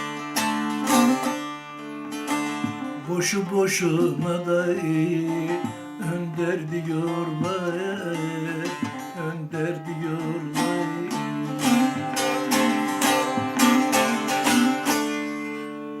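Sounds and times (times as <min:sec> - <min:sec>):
plucked string instrument strummed: 0:00.0 - 0:16.0.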